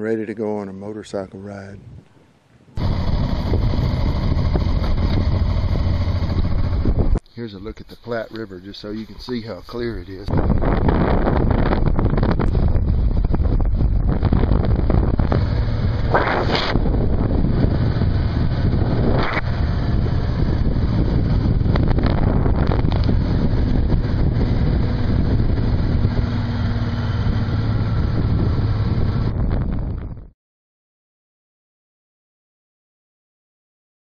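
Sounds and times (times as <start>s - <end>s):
wind buffeting microphone: 0.8s - 30.3s
motorcycle engine humming: 2.5s - 30.3s.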